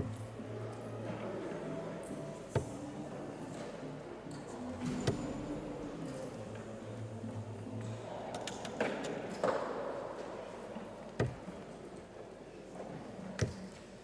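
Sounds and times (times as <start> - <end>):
murmur of crowd: 0.0 - 14.0.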